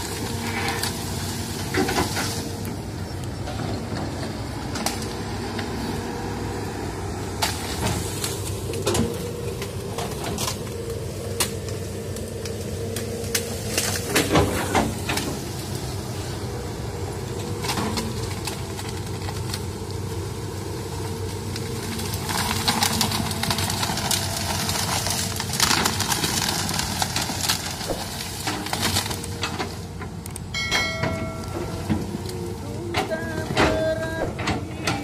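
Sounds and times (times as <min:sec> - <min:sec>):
bamboo crackling and snapping: 0:00.0 - 0:30.5, 0:31.2 - 0:35.0
excavator diesel engine running: 0:00.0 - 0:35.0.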